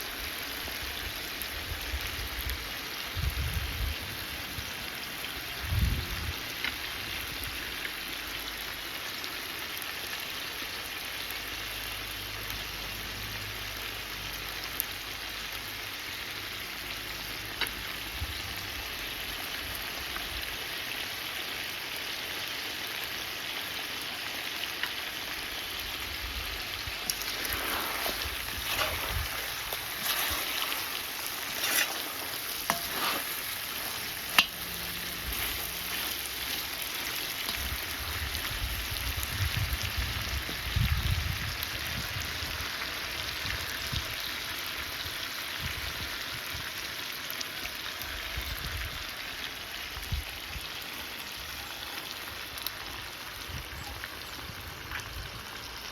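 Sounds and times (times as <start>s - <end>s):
food sizzling and frying: 0.0s - 55.9s.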